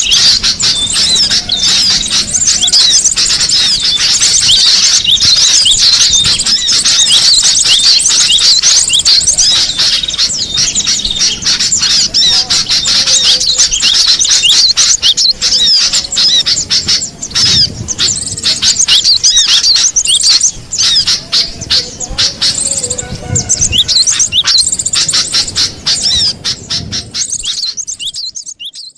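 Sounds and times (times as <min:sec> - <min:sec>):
birds chirping rapidly: 0:00.0 - 0:28.9.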